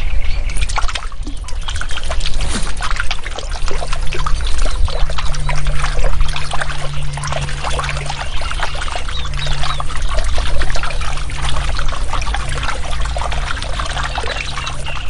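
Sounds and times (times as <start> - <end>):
low steady hum: 0.0 - 15.0
water splashing and trickling: 0.0 - 15.0.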